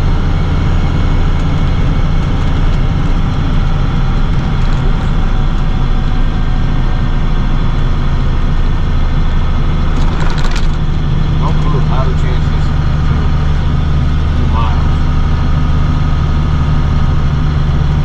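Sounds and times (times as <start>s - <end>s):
truck engine drone in cab: 0.0s - 18.0s.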